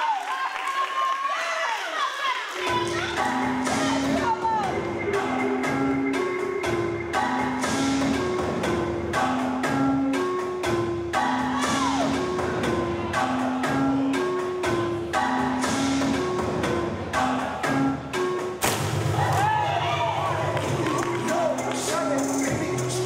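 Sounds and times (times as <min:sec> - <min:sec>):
music with steady beat: 0:02.6 - 0:19.5, 0:20.3 - 0:23.0.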